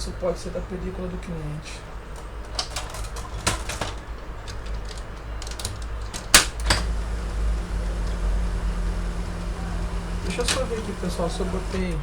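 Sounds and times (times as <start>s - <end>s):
plastic printer parts clicking: 2.1s - 12.0s.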